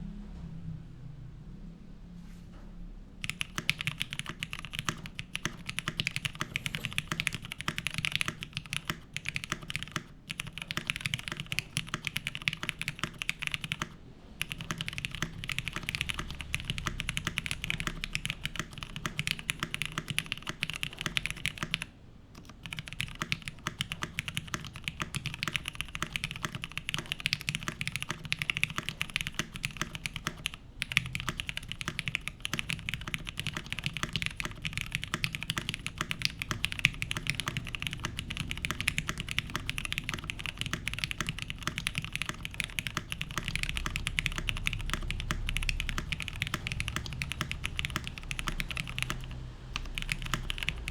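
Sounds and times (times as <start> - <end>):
mechanical keyboard typing: 3.2 - 50.9.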